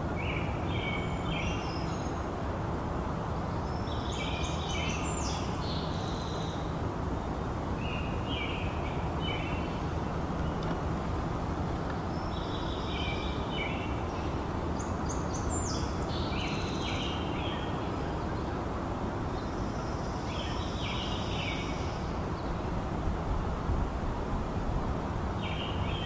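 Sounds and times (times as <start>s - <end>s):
songbird singing: 0.0s - 26.0s
steady rushing noise: 0.0s - 26.0s.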